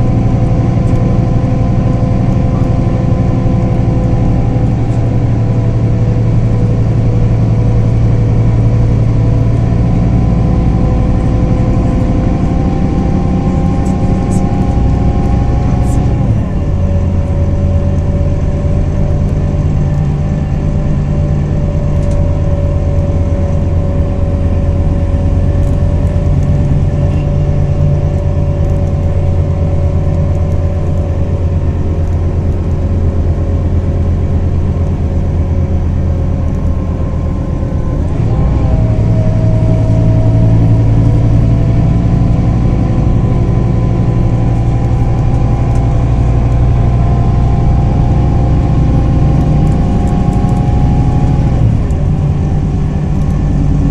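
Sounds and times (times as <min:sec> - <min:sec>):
bus diesel engine pulling: 0:00.0 - 0:53.9.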